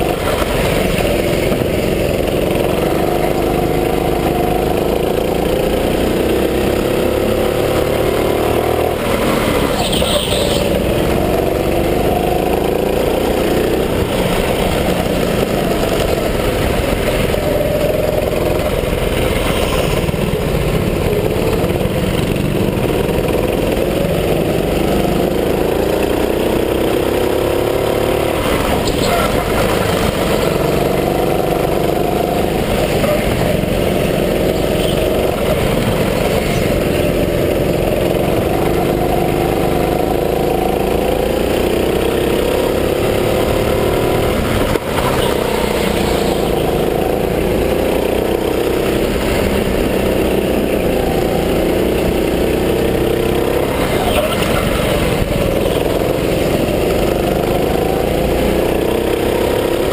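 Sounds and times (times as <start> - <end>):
go-kart engines revving: 0.0 - 59.9.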